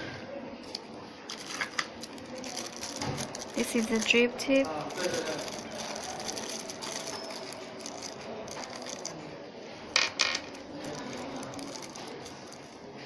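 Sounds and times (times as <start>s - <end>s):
small hard parts rattling: 0.7s - 9.2s, 10.0s - 12.8s.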